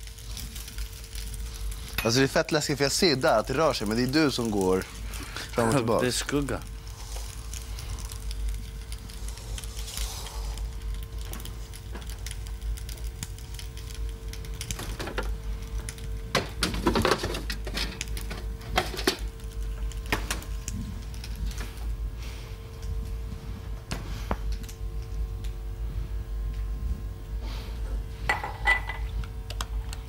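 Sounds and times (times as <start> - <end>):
refrigerator hum: 0.0 - 30.0.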